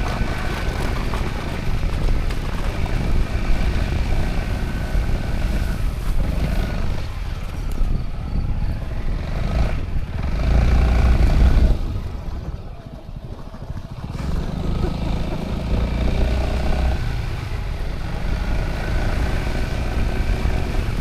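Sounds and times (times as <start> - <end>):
scooter engine running: 0.0 - 21.0
wind and road noise: 0.0 - 21.0.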